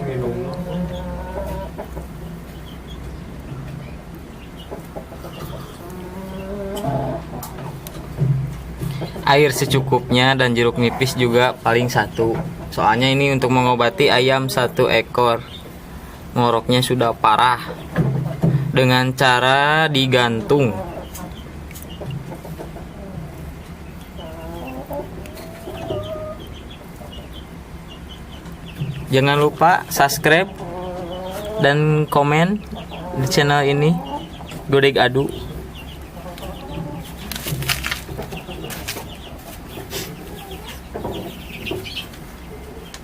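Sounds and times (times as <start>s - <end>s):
drawn-out chicken calls: 0.0s - 16.7s, 19.5s - 43.0s
chickens clucking: 0.0s - 43.0s.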